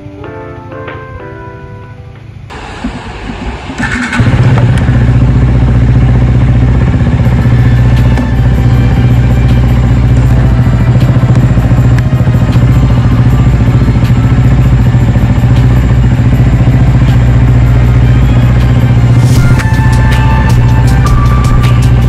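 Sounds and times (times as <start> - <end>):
motorcycle engine idling: 2.5 - 22.0.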